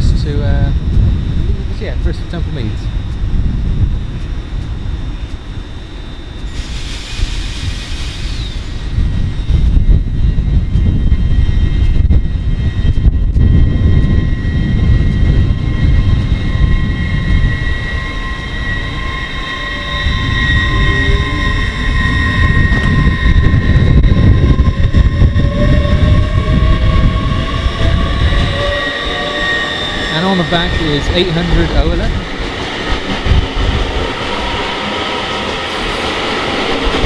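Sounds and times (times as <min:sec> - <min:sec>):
electric train drive whine: 0:00.0 - 0:37.0
wind rumble on microphone: 0:00.0 - 0:37.0.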